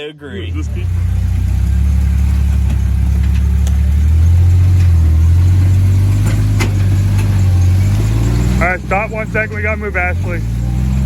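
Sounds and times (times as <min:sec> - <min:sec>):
engine droning at low speed: 0:00.3 - 0:11.0.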